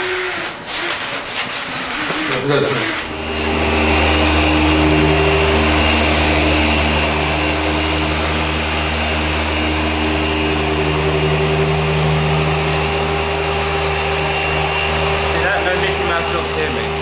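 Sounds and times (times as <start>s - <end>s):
power tool motor running: 0.0s - 17.0s.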